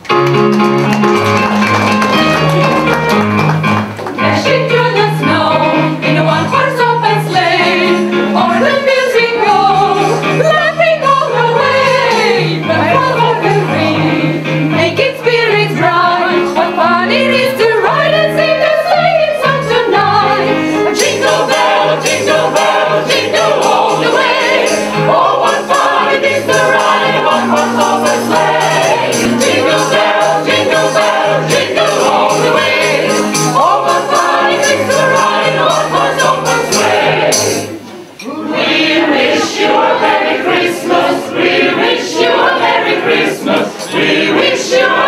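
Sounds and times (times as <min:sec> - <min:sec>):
group singing in chorus: 0:04.1 - 0:45.0.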